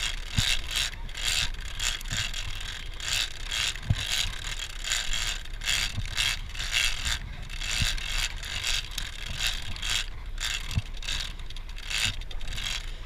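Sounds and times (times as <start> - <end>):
fishing reel ratchet clicking: 0.0 - 13.0.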